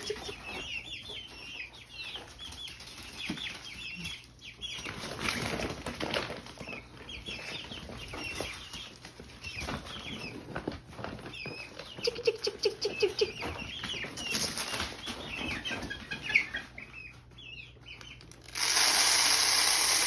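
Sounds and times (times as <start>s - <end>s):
rustling and scratching in feed: 0.0s - 19.3s
chicks peeping: 0.0s - 20.0s.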